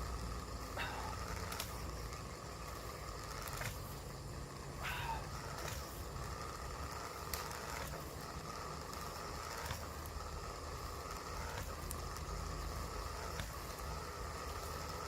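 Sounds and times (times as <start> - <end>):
small motor running: 0.0 - 15.0.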